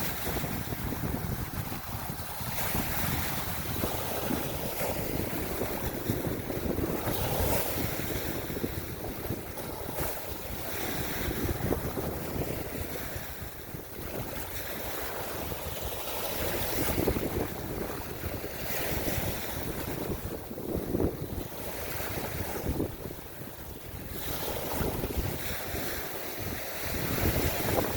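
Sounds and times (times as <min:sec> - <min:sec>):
waves washing: 0:00.0 - 0:27.9
wind buffeting microphone: 0:00.0 - 0:27.9.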